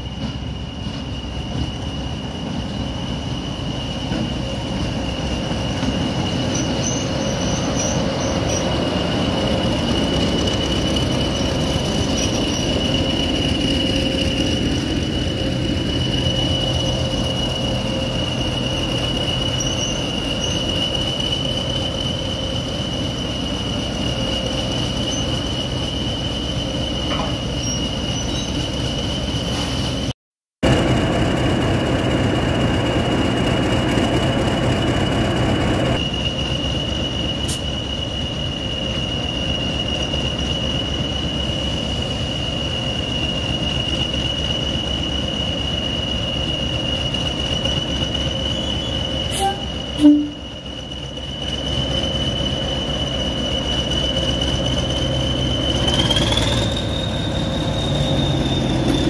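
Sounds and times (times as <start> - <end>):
locomotive engine and wheel rumble: 0.0 - 59.0.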